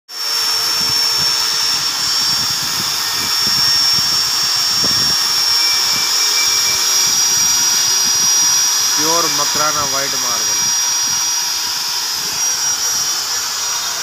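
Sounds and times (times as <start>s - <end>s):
die grinder motor whine: 0.1s - 14.0s
grinding bit hissing on stone: 0.1s - 14.0s.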